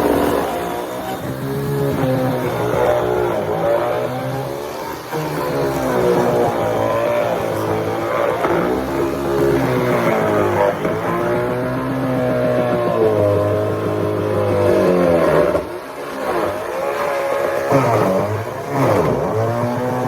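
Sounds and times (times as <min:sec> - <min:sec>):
chainsaw cutting: 0:00.0 - 0:20.0.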